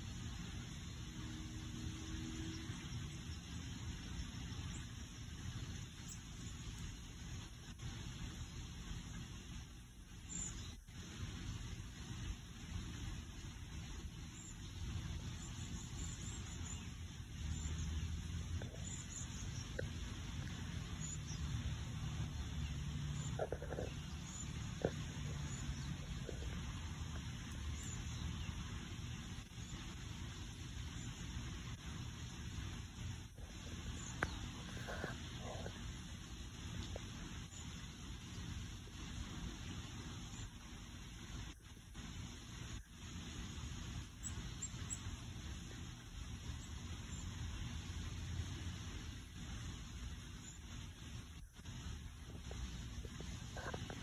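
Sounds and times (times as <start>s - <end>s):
background rumble and hiss: 0.0s - 54.0s
faint hum: 0.0s - 54.0s.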